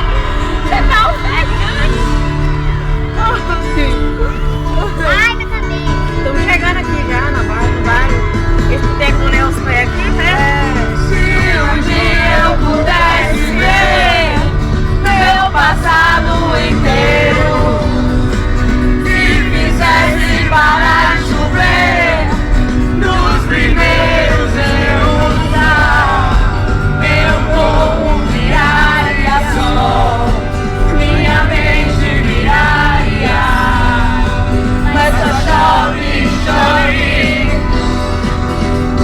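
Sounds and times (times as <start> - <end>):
heavy bass notes: 0.0 - 39.0
loud music with singing: 0.0 - 39.0.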